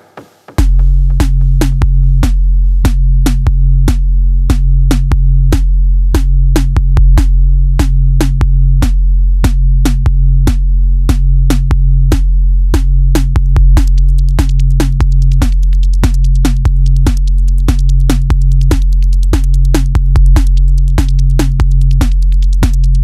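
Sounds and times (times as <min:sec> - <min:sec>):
drum machine beat: 0:00.0 - 0:23.0
deep sustained bass: 0:00.6 - 0:23.0.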